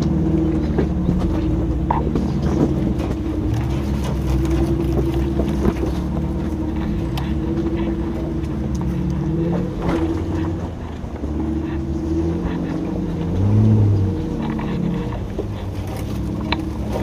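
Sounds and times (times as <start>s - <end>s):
engine droning at low revs: 0.0s - 17.0s.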